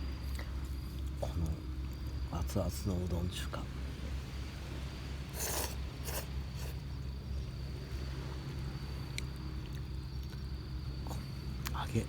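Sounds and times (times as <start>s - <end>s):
high insect trill: 0.0s - 12.0s
low rumble of surf: 0.0s - 12.0s.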